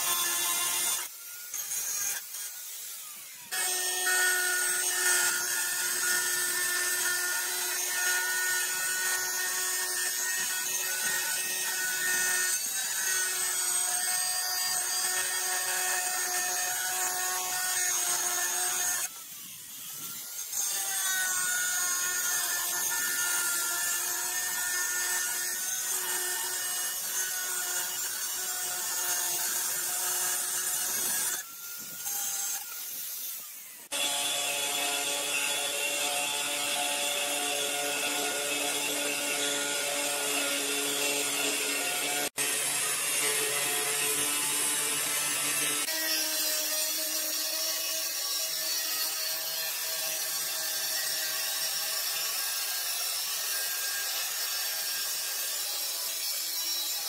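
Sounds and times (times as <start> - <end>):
angle grinder cutting tile: 0.0 - 57.0.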